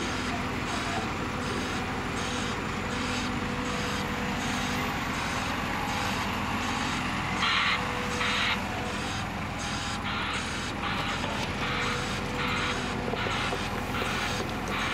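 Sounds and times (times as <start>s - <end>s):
diesel engines running: 0.0s - 14.9s
pulsing hiss: 0.7s - 14.9s.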